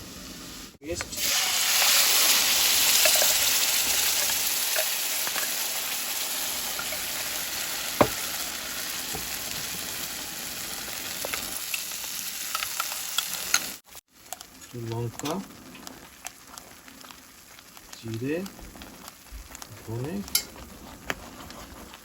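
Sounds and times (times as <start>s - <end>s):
paste sizzling in butter: 1.2s - 22.0s.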